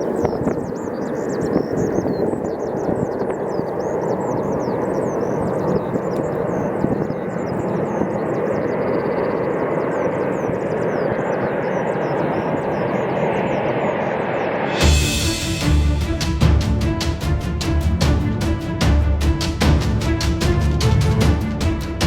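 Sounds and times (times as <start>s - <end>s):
airplane engines roaring: 0.0s - 22.0s.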